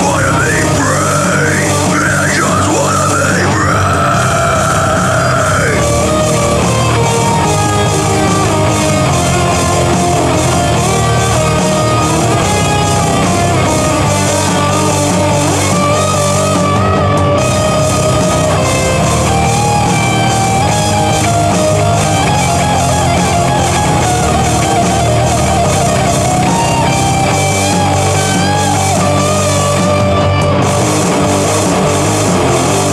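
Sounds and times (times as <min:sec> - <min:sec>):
distorted electric guitars: 0:00.0 - 0:32.9
drum kit: 0:00.0 - 0:32.9.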